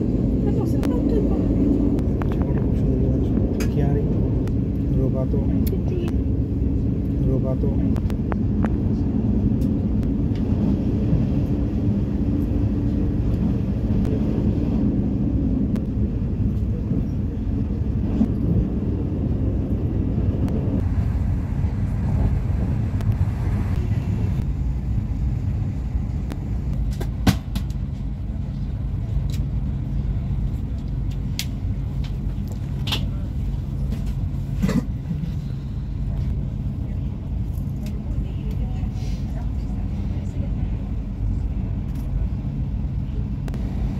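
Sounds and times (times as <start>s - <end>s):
train wheels rumbling: 0.0s - 43.9s.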